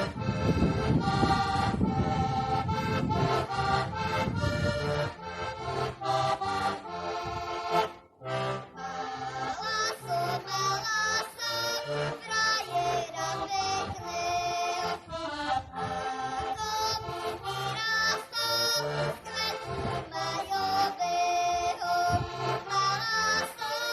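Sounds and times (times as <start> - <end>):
button accordion folk tune: 0.0 - 23.9.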